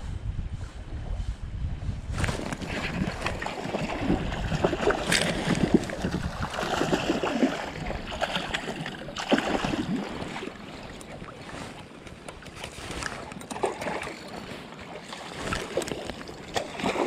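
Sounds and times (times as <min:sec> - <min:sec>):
water splashing in river: 0:02.2 - 0:17.0.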